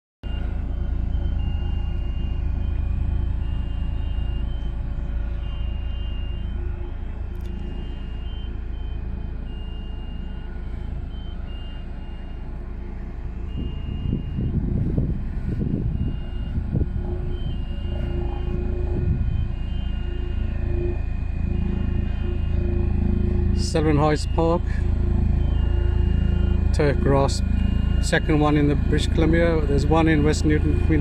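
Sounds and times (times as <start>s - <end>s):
bulldozer diesel engine rumbling: 0.2s - 31.0s
reversing alarm beeps: 0.2s - 31.0s.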